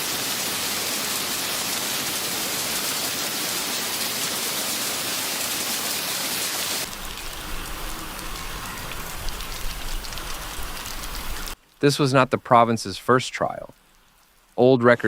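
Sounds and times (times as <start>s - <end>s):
heavy rain hissing: 0.0s - 14.2s.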